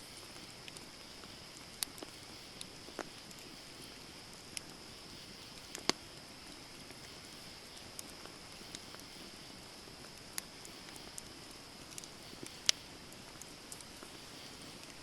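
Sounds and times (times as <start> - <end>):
campfire crackling: 0.0 - 15.0
sharp pops from fire: 0.2 - 6.2, 6.9 - 9.4, 10.1 - 15.0.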